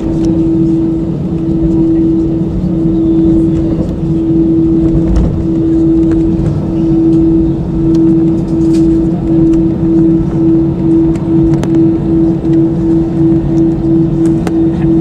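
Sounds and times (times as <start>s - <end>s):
jet engines humming: 0.0s - 15.0s
low rumble: 0.0s - 15.0s.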